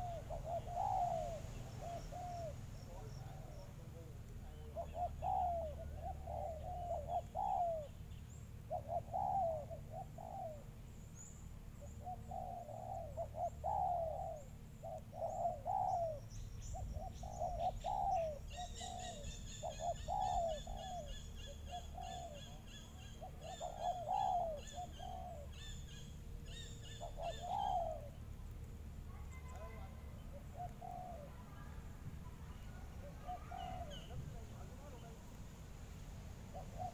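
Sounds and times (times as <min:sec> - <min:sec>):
doves cooing: 0:00.0 - 0:10.9, 0:11.6 - 0:35.4, 0:36.4 - 0:36.9.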